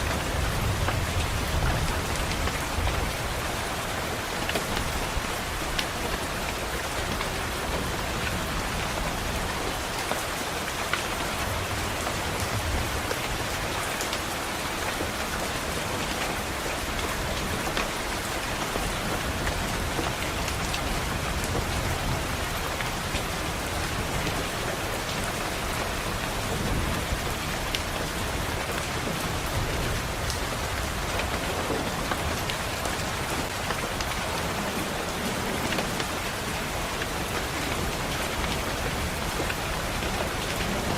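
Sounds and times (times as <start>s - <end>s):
heavy rain on a window: 0.0s - 40.9s.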